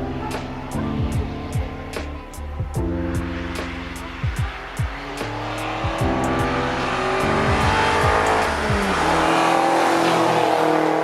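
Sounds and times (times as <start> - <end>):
car engine accelerating: 0.0 - 11.0
electronic music with steady beat: 0.0 - 11.0.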